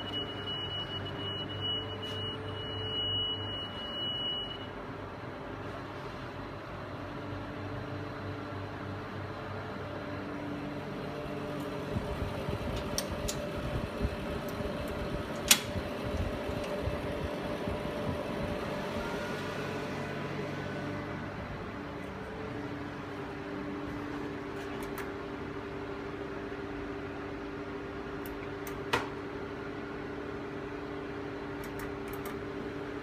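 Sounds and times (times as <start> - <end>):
machinery and ventilation hum: 0.0 - 33.0.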